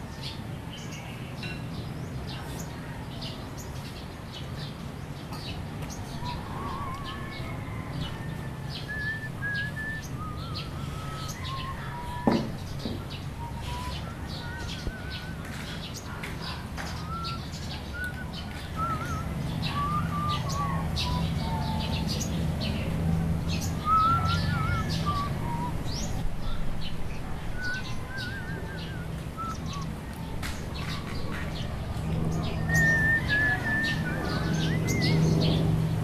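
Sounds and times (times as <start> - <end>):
birds chirping and trilling: 0.0 - 36.0.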